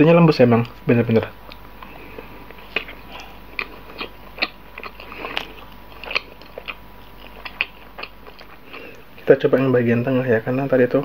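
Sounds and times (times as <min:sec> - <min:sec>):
person chewing bread: 0:00.5 - 0:09.7.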